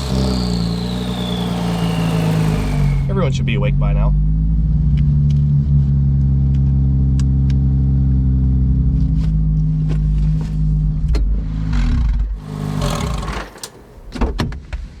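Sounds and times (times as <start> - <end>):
car engine droning: 0.0 - 10.8, 12.0 - 14.4.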